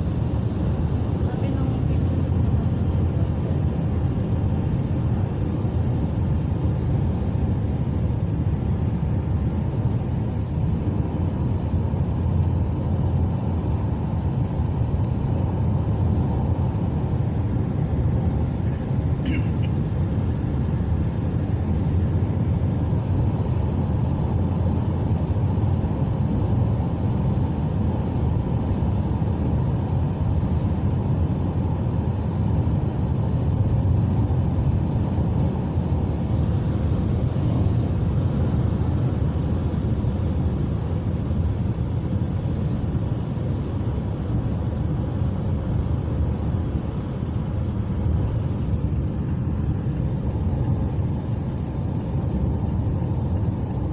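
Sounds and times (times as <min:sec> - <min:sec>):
vehicle engine and tyre rumble: 0:00.0 - 0:53.9.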